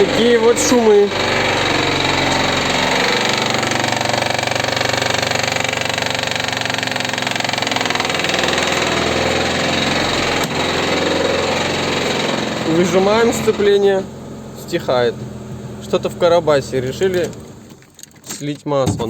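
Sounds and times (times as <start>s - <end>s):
car engine running: 0.0s - 18.0s
gearbox knocking rattle: 0.0s - 19.0s.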